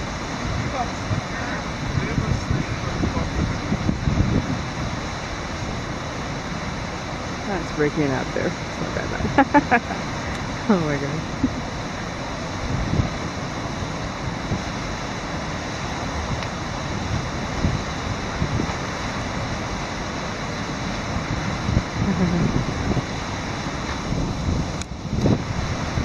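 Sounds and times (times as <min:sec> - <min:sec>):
river water rushing: 0:00.0 - 0:26.0
wind noise: 0:00.0 - 0:26.0.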